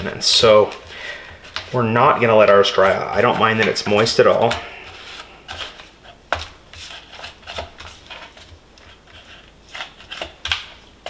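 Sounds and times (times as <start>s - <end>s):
foil pan crinkling and clicking: 0.1s - 10.9s.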